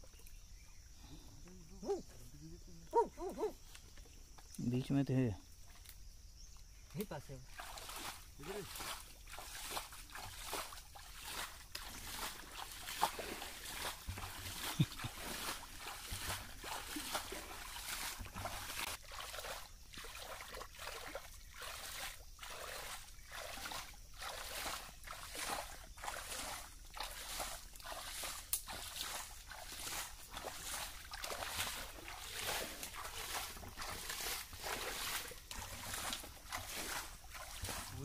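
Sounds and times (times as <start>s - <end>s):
hands splashing in shallow water: 7.5s - 38.0s.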